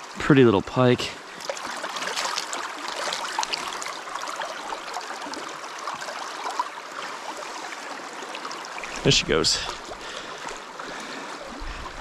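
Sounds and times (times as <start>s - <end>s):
light water splashing: 1.3s - 12.0s.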